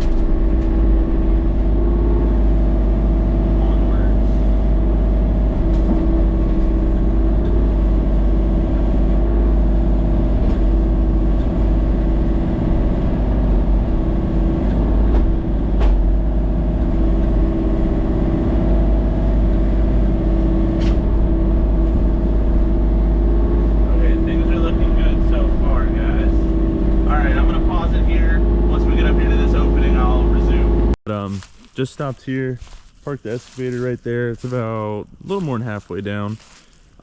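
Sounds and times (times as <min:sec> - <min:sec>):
excavator engine rumbling: 0:00.0 - 0:31.4.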